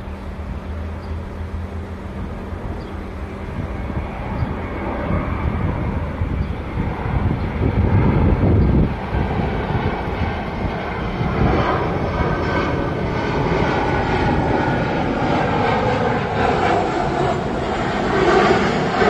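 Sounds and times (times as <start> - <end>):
jet airliner engine roar: 0.0 - 19.0
jet engine whine: 0.0 - 19.0.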